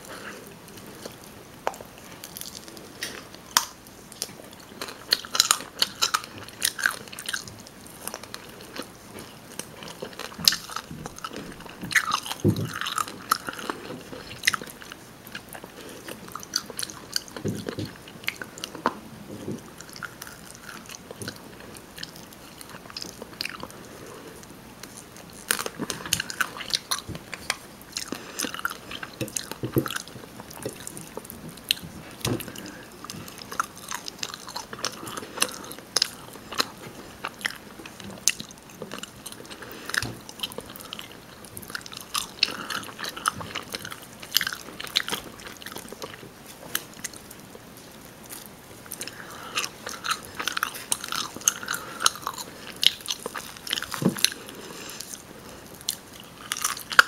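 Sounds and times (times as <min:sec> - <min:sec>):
chewing with wet mouth smacks: 0:00.1 - 0:47.6, 0:48.2 - 0:57.0.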